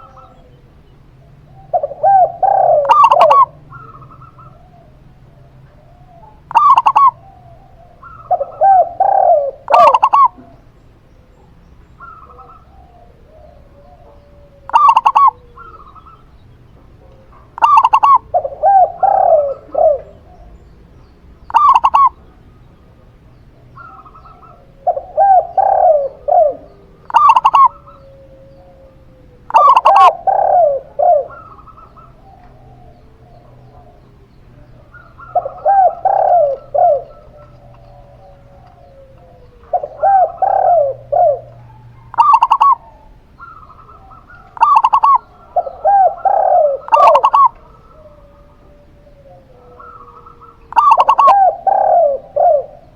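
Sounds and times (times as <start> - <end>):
lower quick dove coos: 0.0 - 11.4, 12.0 - 16.3, 17.0 - 20.6, 21.5 - 22.4, 23.8 - 52.9
higher dove coos: 0.0 - 52.9.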